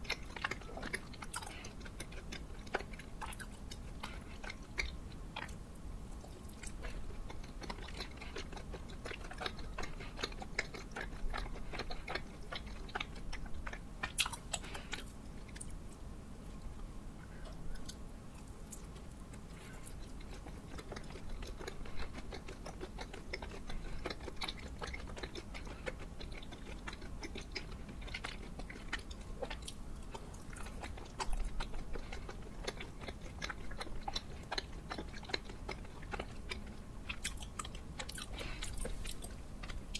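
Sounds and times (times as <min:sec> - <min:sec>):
person chewing sticky food: 0:00.0 - 0:39.9.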